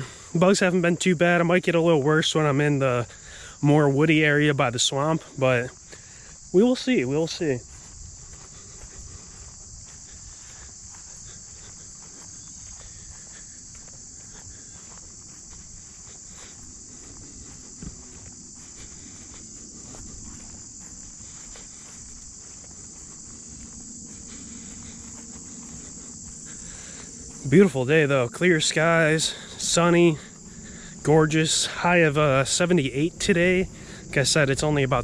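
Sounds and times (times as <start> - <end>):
footsteps on a trail: 0.0 - 35.0
insect chorus trilling: 0.0 - 35.0.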